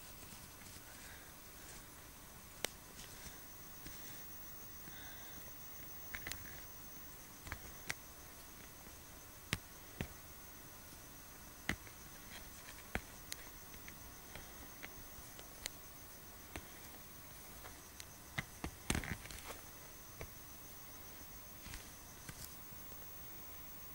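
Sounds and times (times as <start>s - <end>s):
steady hiss: 0.0s - 23.9s.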